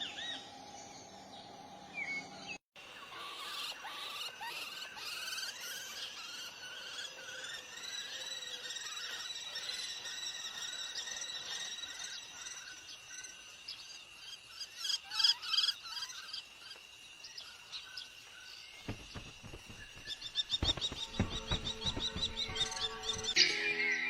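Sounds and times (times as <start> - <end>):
birds chirping: 0.0 - 23.4
high insect drone: 3.3 - 23.3.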